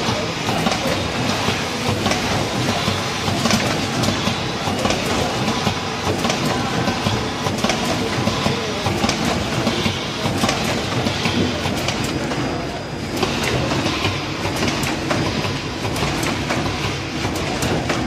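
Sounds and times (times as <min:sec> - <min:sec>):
cartoning machine clattering: 0:00.0 - 0:18.0.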